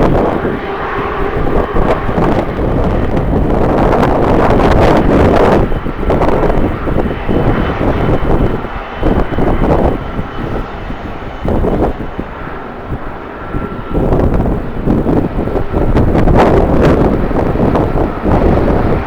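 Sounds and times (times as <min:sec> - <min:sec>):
jet engines whining: 0:00.0 - 0:19.0
wind buffeting microphone: 0:00.0 - 0:19.0.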